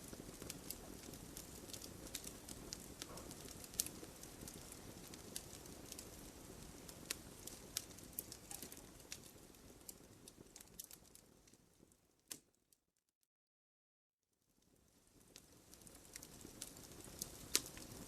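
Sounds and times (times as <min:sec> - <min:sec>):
wood fire crackling: 0:00.0 - 0:12.6, 0:14.4 - 0:18.0.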